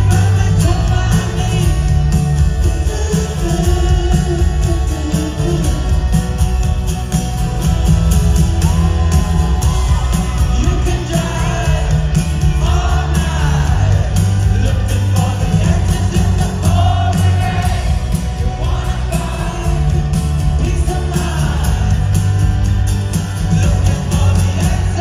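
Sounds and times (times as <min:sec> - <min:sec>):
man singing: 0:00.0 - 0:06.3, 0:10.0 - 0:22.2, 0:23.3 - 0:25.0
live rock band: 0:00.0 - 0:25.0.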